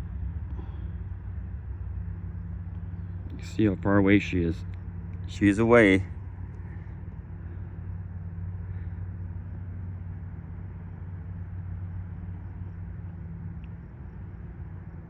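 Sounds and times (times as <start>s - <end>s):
distant aircraft engines droning: 0.0s - 15.0s.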